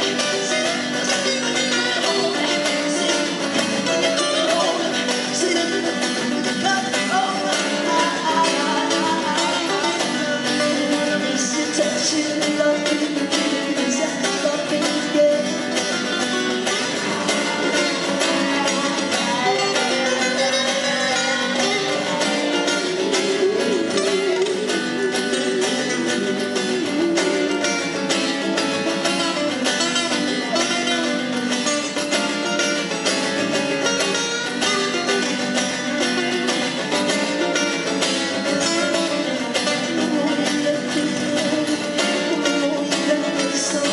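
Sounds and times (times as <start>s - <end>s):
man singing: 0.0s - 32.8s, 33.8s - 43.9s
acoustic guitar: 0.0s - 43.9s.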